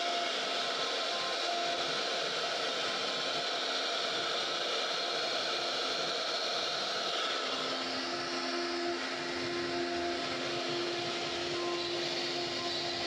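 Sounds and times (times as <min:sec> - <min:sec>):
faint steady tones: 0:00.0 - 0:13.0
router cutting wood: 0:00.0 - 0:13.0.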